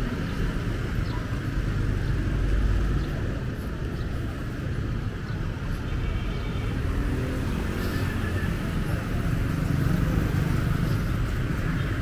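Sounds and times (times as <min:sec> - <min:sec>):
cars and motorbikes passing: 0:00.0 - 0:12.0.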